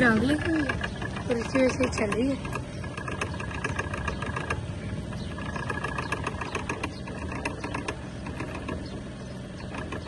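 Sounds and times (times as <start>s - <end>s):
clicking rattle: 0.0s - 10.0s
cotton candy machine humming: 0.0s - 10.0s.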